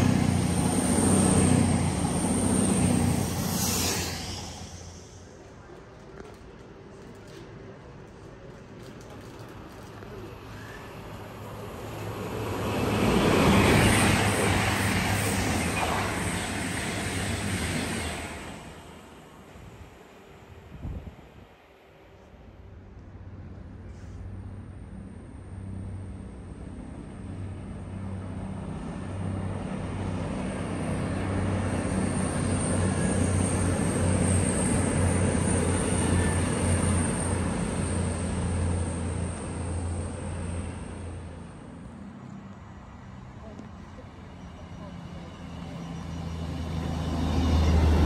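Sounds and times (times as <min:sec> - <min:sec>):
train engine hum: 0:00.0 - 0:48.0
wheel and rail noise: 0:00.0 - 0:48.0.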